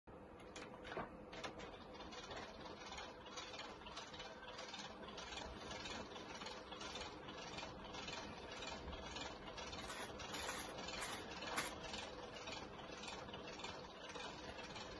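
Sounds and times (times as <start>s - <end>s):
roller mechanism clicking: 0.4s - 14.9s.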